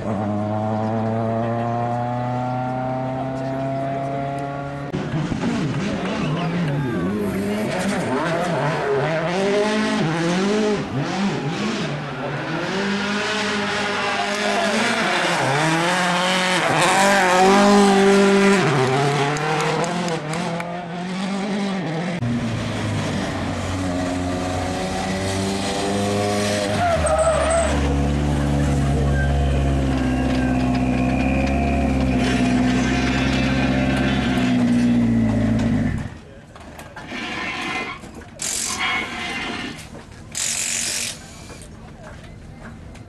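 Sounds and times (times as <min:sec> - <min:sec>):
rally car engine revving: 0:00.0 - 0:36.3.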